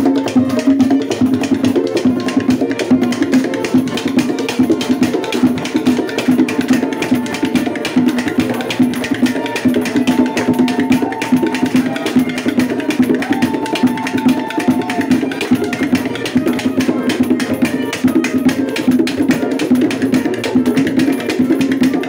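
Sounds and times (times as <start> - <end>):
gourd percussion clacks: 0.0 - 22.0
hand drums fast rhythm: 0.0 - 22.0.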